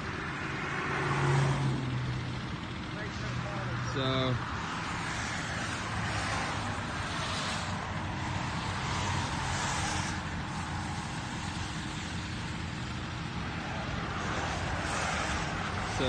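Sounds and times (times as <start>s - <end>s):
truck engine running under load: 0.0s - 16.0s.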